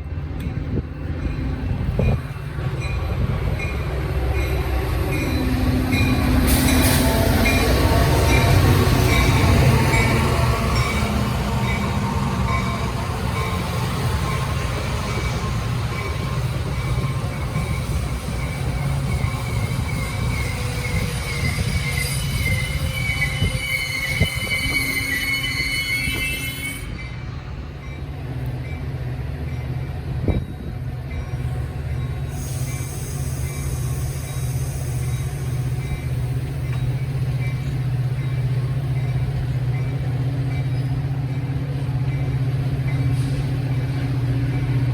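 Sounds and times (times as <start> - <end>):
train rumbling past: 0.0 - 44.9
wheels squealing on rails: 1.1 - 28.8, 29.4 - 44.9.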